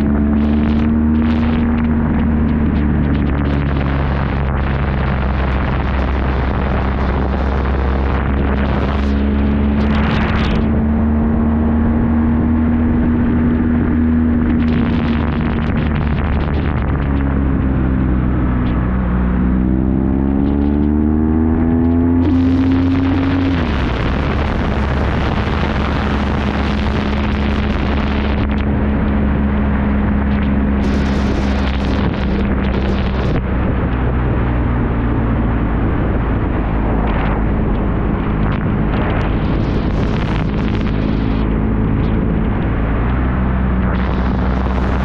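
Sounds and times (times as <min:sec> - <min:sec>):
motorcycle engine cruising: 0:00.0 - 0:45.0
wind rush: 0:00.0 - 0:45.0.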